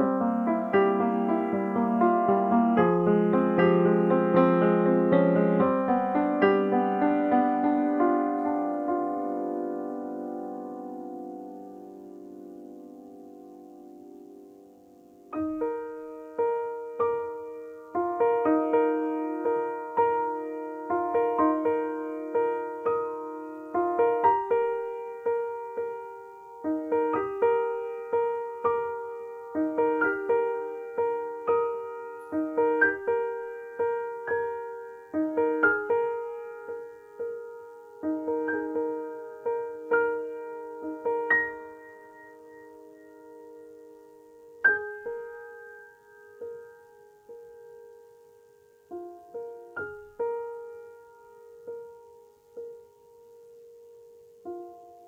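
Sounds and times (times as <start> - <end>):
grand piano slow notes: 0.0 - 55.0.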